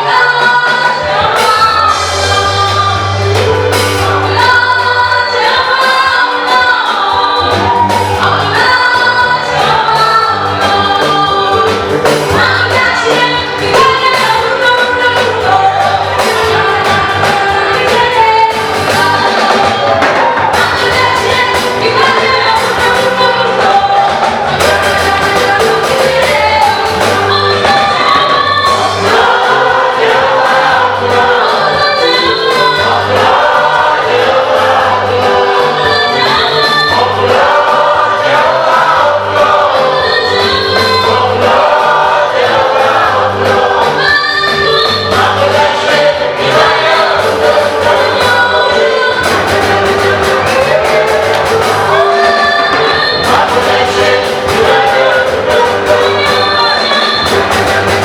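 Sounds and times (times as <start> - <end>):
choir singing gospel: 0.0 - 58.0
repeating bass line: 0.0 - 58.0.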